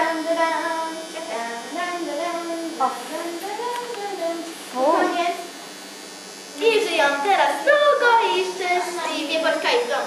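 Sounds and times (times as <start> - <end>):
girl singing wordless tune: 0.0 - 5.5, 6.6 - 10.0.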